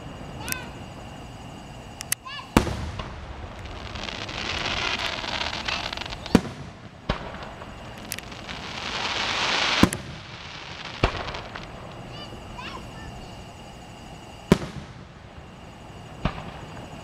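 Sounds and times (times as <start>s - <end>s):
fireworks bangs: 0.0s - 17.0s
fireworks hissing crackle: 0.0s - 17.0s.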